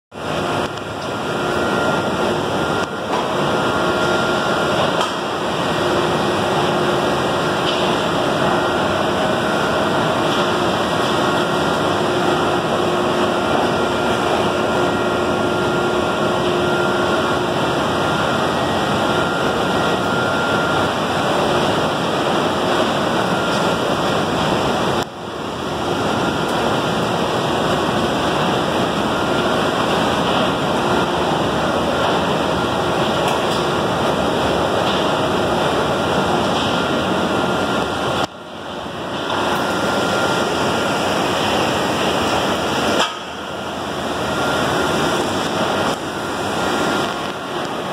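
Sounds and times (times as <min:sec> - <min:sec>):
belt conveyor rushing: 0:00.2 - 0:47.9
faint steady whine: 0:00.2 - 0:47.9.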